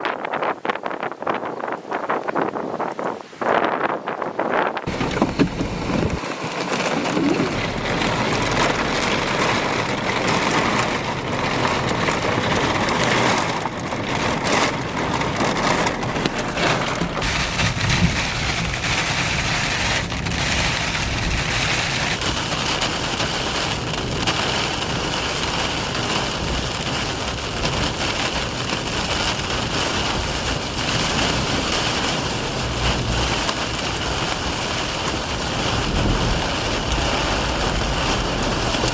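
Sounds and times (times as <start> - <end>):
strong wind: 0.0 - 38.9
heavy rain: 4.8 - 38.9
low thunder rumbles: 4.9 - 38.9.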